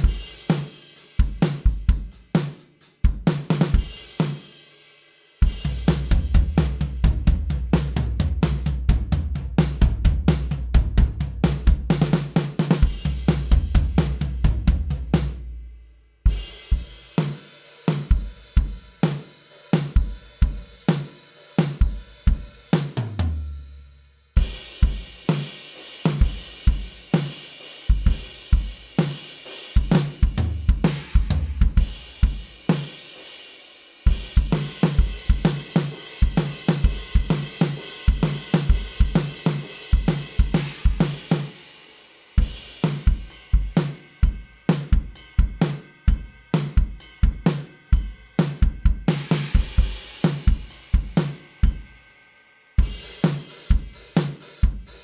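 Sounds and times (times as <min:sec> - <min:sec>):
rock drum kit grooves: 0:00.0 - 0:55.0.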